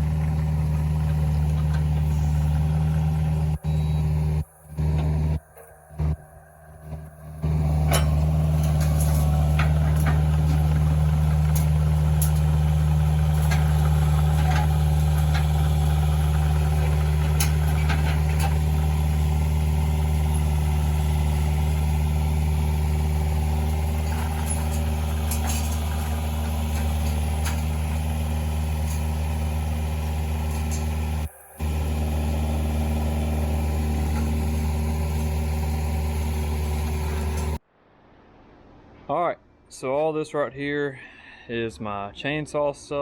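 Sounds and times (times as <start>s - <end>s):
vehicle engine running: 0.0s - 37.6s.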